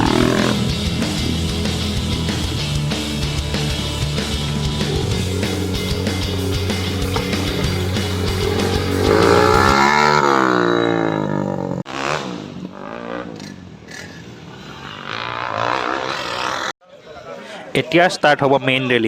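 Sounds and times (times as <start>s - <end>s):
dirt bike engines revving: 0.0s - 16.8s.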